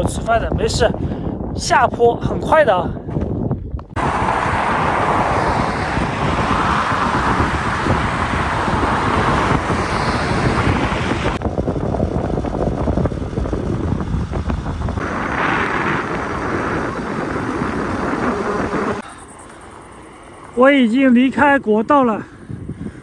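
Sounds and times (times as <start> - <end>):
wind rushing over microphone: 0.0 - 23.0
bike road noise: 2.9 - 23.0.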